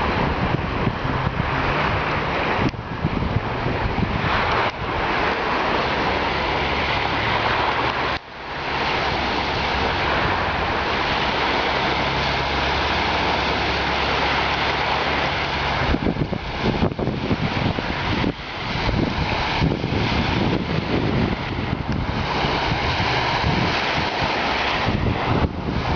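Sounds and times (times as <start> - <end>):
floodwater rushing: 0.0 - 25.9.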